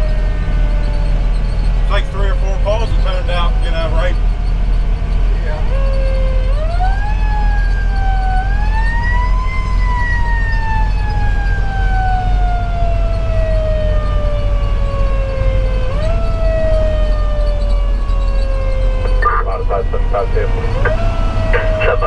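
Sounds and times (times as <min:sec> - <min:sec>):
diesel engine and road rumble: 0:00.0 - 0:22.0.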